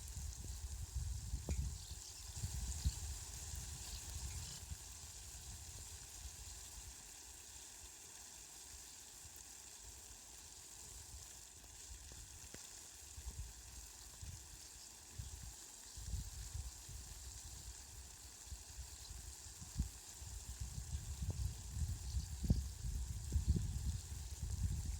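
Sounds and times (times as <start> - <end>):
rain hissing: 0.0 - 24.9.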